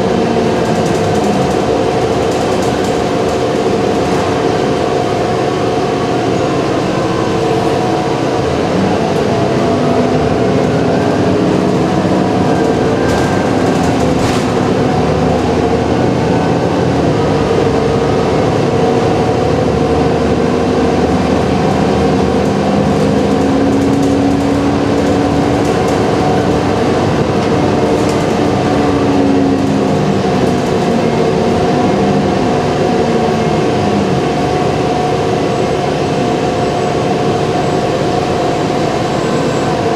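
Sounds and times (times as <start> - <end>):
bus engine hum: 0.0 - 39.9
road rumble: 0.0 - 39.9.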